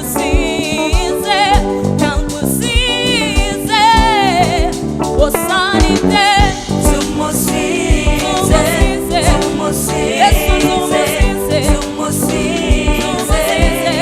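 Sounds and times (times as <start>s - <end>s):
band with steady drum beat: 0.0s - 14.0s
person singing with vibrato: 0.0s - 14.0s.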